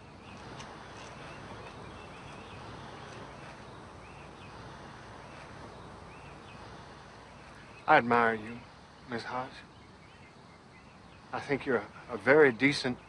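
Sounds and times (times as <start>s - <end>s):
faint bird chirps: 0.0s - 13.0s
steady background hiss: 0.0s - 13.0s.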